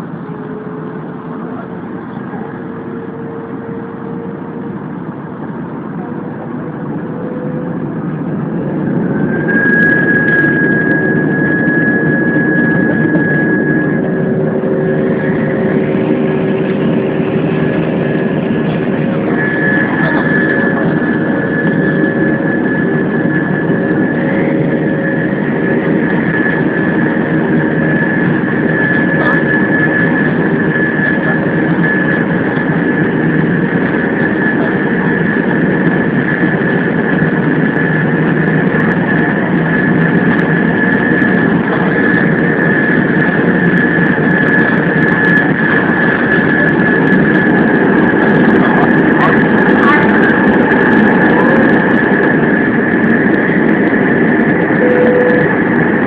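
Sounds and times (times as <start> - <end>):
jet engine whine and rumble: 0.0 - 56.0.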